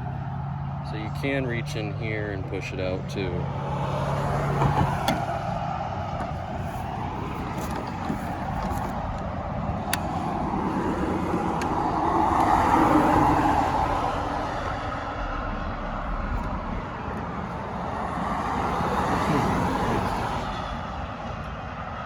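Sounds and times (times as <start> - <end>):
road traffic: 0.0 - 22.0
vehicle passing: 0.0 - 22.0.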